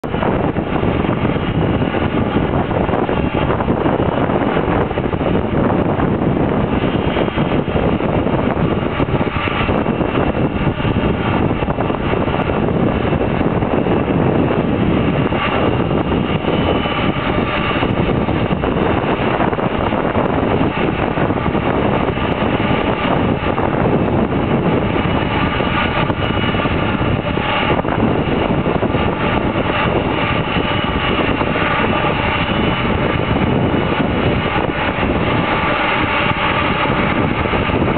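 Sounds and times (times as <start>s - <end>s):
jet engines rumbling with whine: 0.0s - 37.9s.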